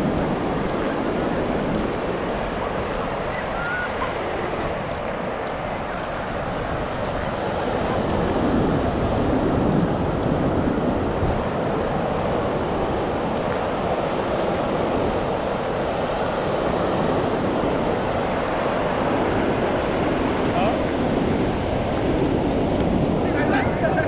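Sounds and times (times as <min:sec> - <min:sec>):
ocean surf washing on beach: 0:00.0 - 0:24.0.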